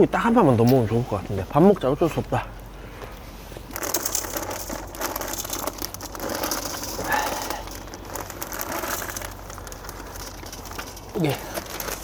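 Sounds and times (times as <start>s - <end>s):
chestnuts crackling over fire: 0.0s - 12.0s.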